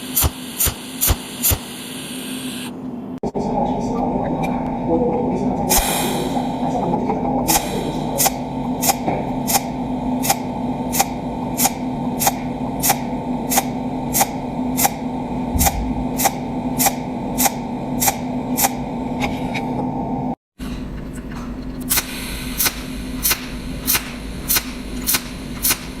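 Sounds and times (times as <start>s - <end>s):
welding machine electrical hum: 0.0s - 3.2s, 4.6s - 26.0s.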